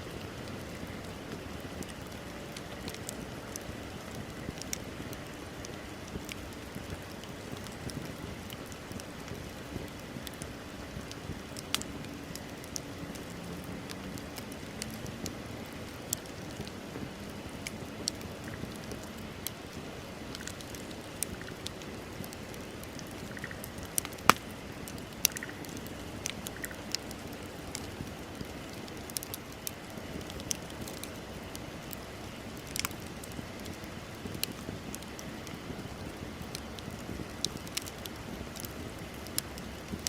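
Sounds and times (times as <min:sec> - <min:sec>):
bonfire crackling: 0:00.0 - 0:40.0.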